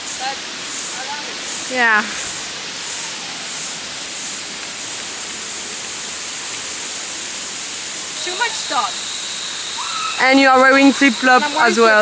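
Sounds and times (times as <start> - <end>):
high pulsing hiss: 0.0 - 12.0
waterfall rushing: 0.0 - 12.0.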